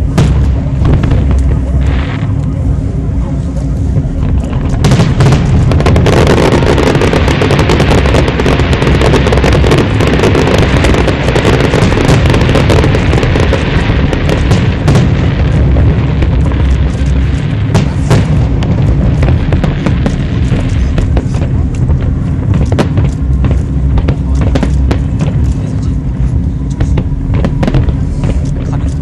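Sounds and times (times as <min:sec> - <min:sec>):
fireworks booming: 0:00.0 - 0:29.0
fireworks crackling: 0:00.0 - 0:29.0.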